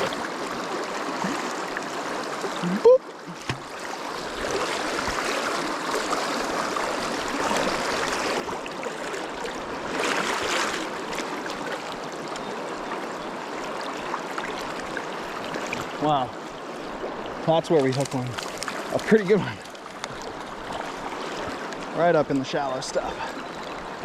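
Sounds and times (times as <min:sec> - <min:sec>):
fast river current rushing: 0:00.0 - 0:24.0.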